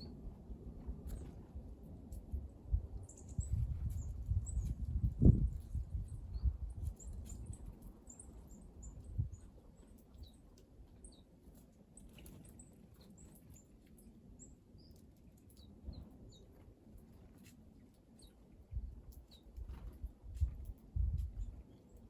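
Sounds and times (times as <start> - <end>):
small birds chirping: 2.3 - 22.0.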